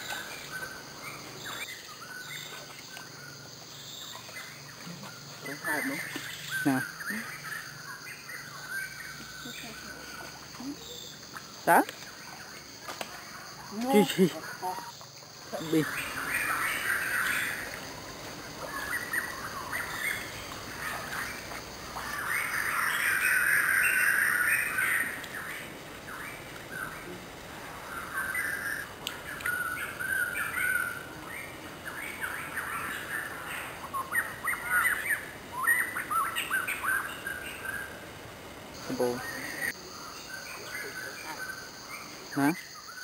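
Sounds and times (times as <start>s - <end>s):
wild birds chirping: 0.0s - 43.0s.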